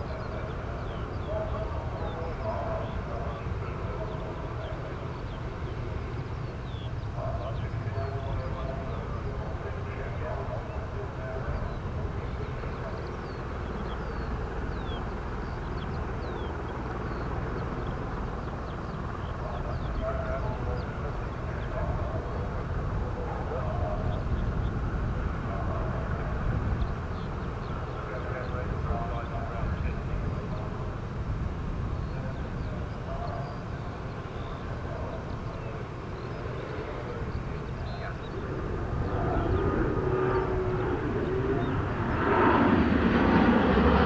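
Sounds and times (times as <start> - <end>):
jet engines roaring overhead: 0.0 - 44.0.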